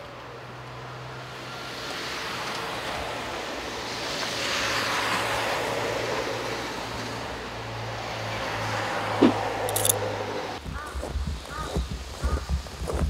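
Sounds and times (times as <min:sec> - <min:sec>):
passing vehicle road noise: 0:00.1 - 0:10.6.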